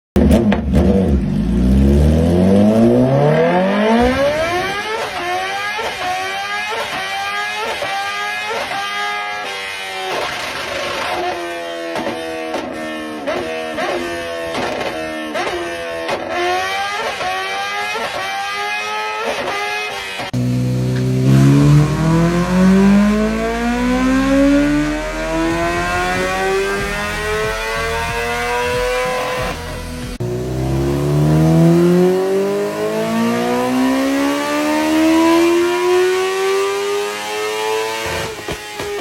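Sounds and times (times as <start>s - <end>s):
motorcycle engine accelerating: 0.2s - 39.0s.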